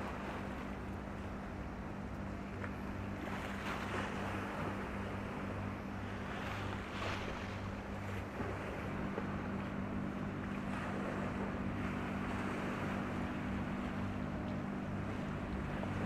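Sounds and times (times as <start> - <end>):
ferry engine drone: 0.0 - 16.0.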